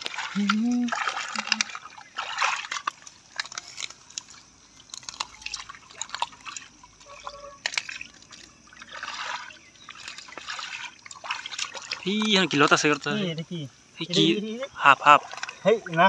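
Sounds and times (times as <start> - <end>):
wet mud squelching: 0.0 - 13.2, 14.0 - 16.0
splashes in muddy water: 0.0 - 16.0
water dripping: 0.0 - 16.0.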